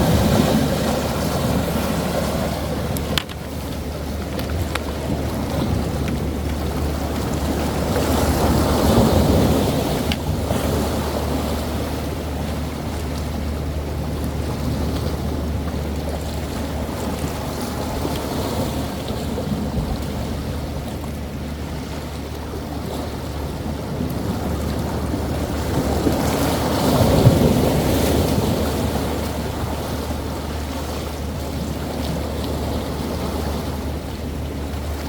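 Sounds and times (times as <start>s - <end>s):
sea waves breaking: 0.0s - 35.0s
wind rumble on microphone: 0.0s - 35.0s.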